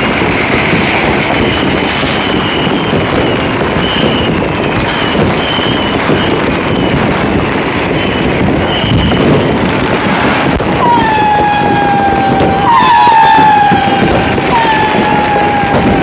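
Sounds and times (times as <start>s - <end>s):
descending firework whistle: 0.0s - 16.0s
fireworks crackling and popping: 0.0s - 16.0s.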